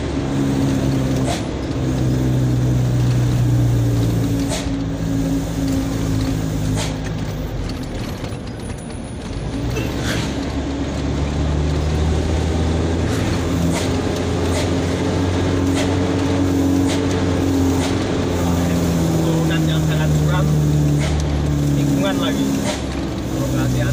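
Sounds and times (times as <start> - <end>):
truck engine drone: 0.0 - 23.9.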